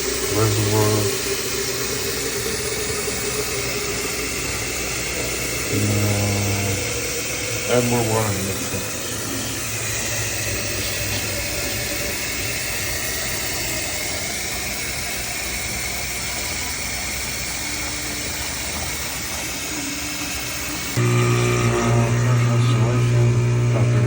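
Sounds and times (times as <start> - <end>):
water running into reservoir: 0.0 - 24.0.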